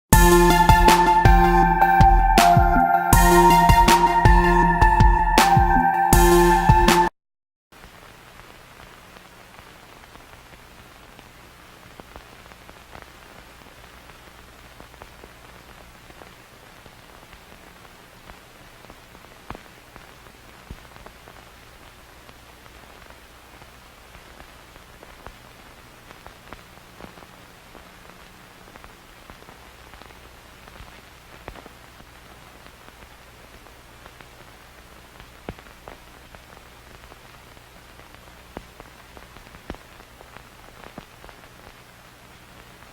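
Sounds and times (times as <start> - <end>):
crackles and pops: 7.8 - 42.9
film static hiss: 7.8 - 42.9.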